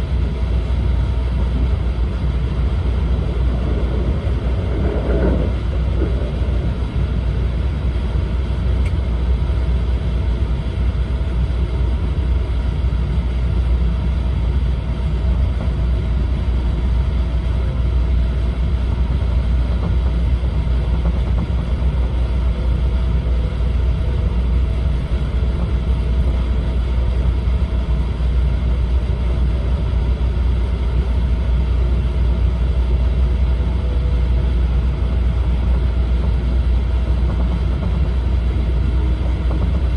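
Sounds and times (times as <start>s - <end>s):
train cabin low rumble: 0.0s - 39.9s.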